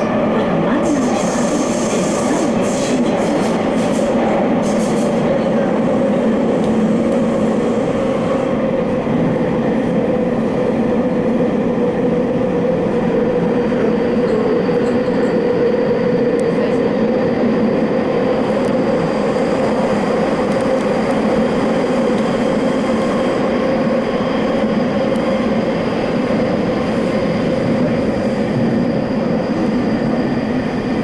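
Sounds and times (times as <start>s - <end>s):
wheels rumbling on rail: 0.0s - 31.0s.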